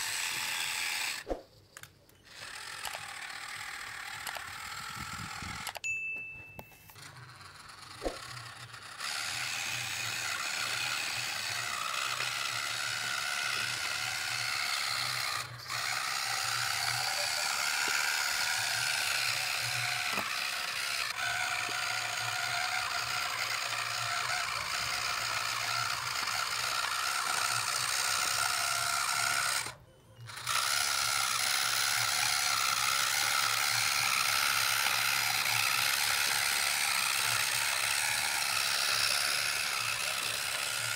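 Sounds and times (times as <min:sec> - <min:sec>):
small electric gear motor whirring: 0:00.0 - 0:05.8, 0:06.6 - 0:40.9.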